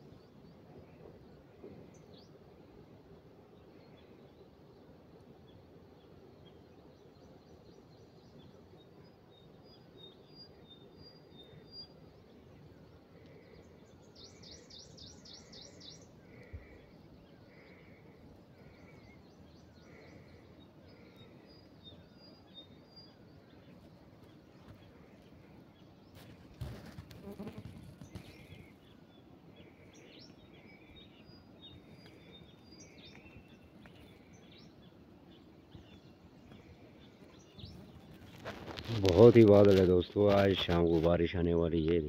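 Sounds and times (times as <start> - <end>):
faint birdsong: 0.0 - 42.0
low steady hiss: 0.0 - 42.0.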